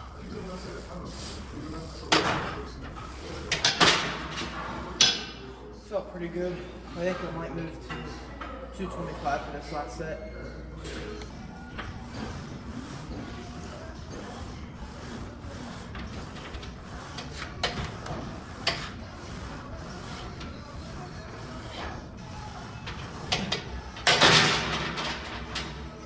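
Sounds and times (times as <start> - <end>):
gym background noise: 0.0 - 26.0.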